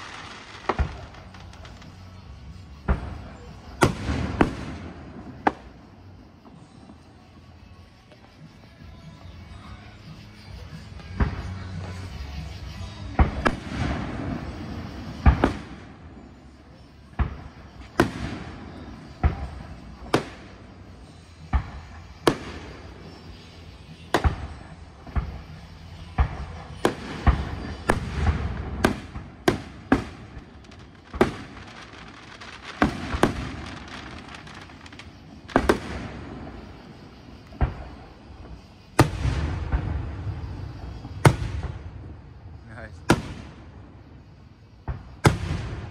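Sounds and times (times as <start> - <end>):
firework shells bursting: 0.0 - 6.6, 10.8 - 42.1.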